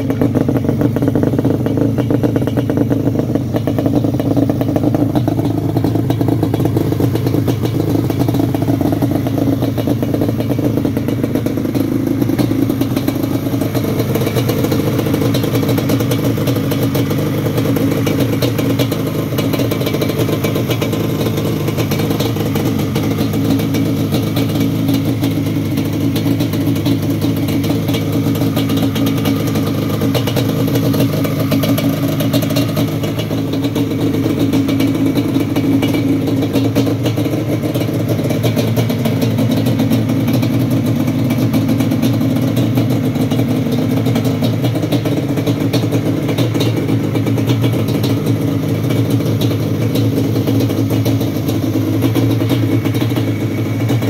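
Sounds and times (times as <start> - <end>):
two-stroke engine idling: 0.0 - 54.0.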